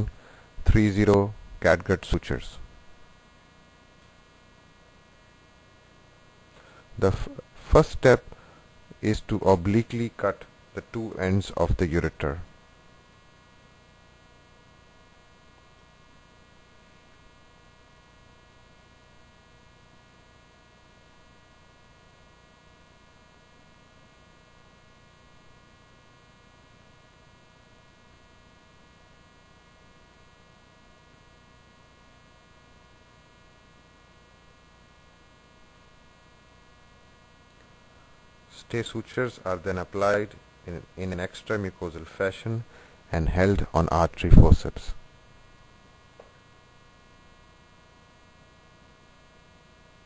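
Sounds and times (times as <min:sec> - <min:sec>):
faint electrical hum and buzz: 0:00.0 - 0:50.0.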